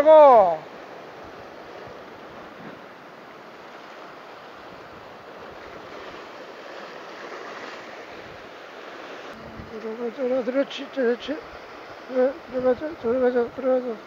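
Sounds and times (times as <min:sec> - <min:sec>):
ocean surf over rocks: 0:00.0 - 0:14.0.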